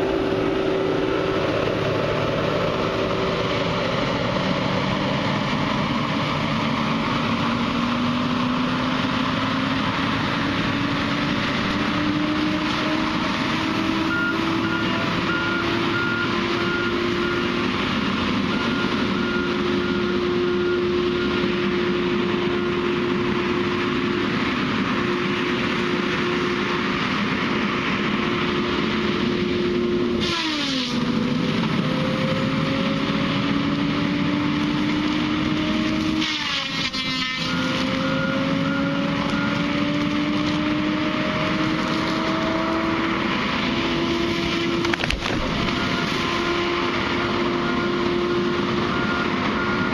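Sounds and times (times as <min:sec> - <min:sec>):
heavy machine engine running: 0:00.0 - 0:49.9.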